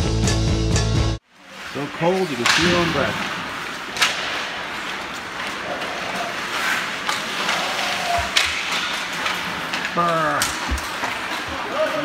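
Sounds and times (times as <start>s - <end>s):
ice rink noise: 1.2s - 12.0s.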